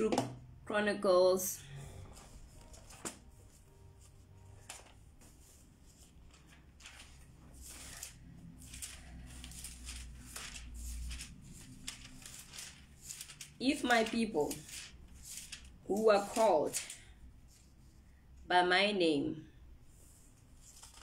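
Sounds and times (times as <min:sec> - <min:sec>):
pages turning: 0:01.8 - 0:17.9, 0:20.0 - 0:21.0.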